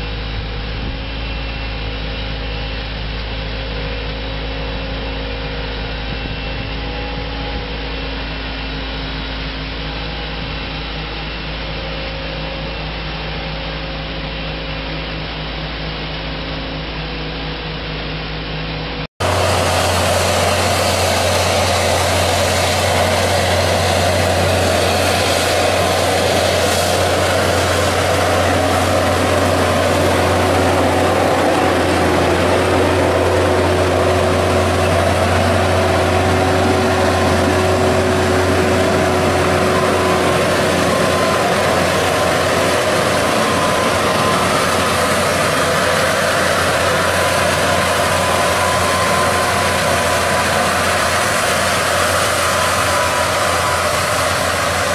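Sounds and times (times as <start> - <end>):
tractor diesel engine drone: 0.0 - 54.9.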